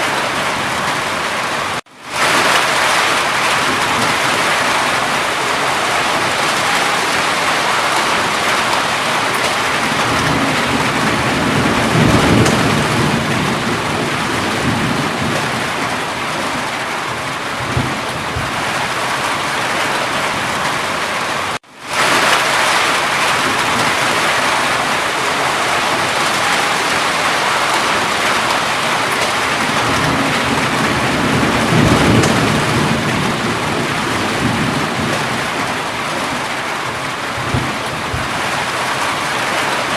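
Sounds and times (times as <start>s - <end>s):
heavy rain: 0.0s - 39.9s
thunder rolling: 0.0s - 39.9s.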